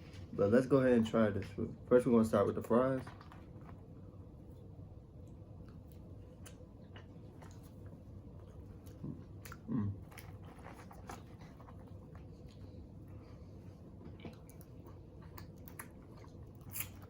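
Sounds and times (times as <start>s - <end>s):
chewing crunchy food: 3.0s - 17.0s.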